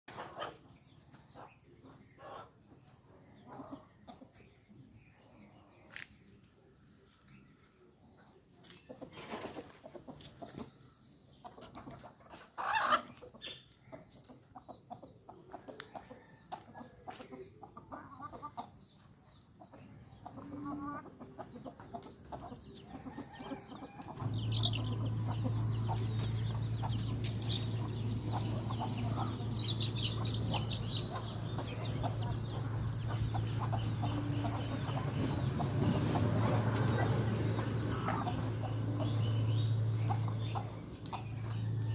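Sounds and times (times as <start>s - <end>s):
chickens clucking: 0.1s - 41.9s.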